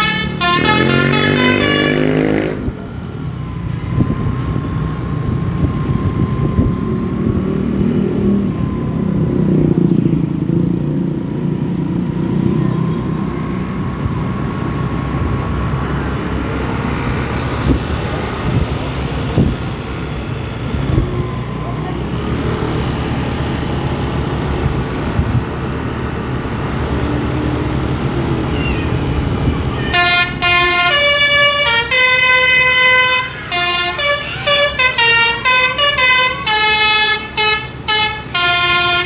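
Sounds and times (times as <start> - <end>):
engine rumble of passing vehicles: 0.0 - 39.0.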